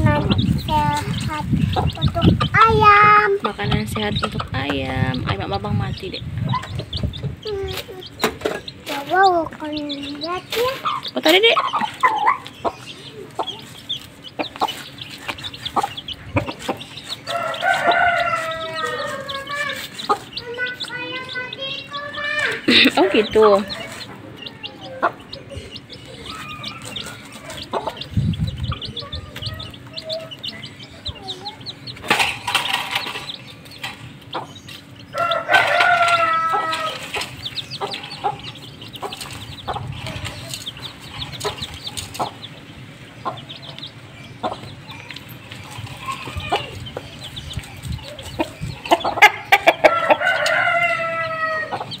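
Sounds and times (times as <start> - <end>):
chicken calls: 0.0 - 52.0
chicks peeping: 0.0 - 52.0.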